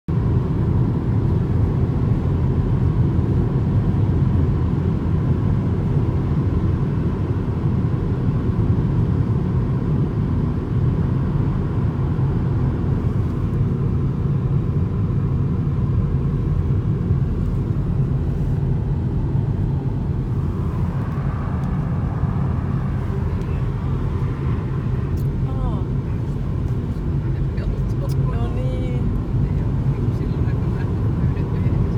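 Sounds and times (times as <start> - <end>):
car road rumble: 0.1 - 31.9.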